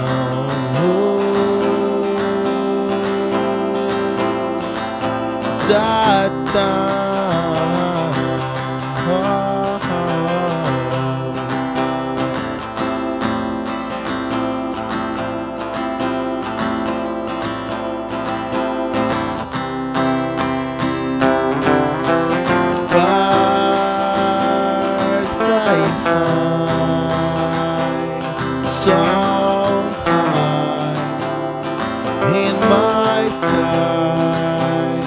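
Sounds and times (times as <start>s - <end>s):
melodic lead line: 0.0s - 35.0s
strummed acoustic guitar: 0.0s - 35.0s.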